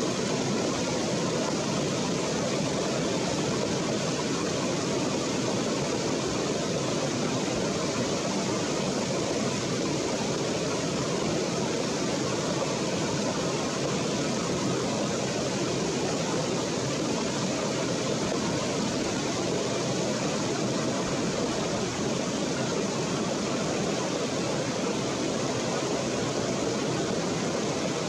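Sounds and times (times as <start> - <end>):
stream running over rocks: 0.0 - 28.0.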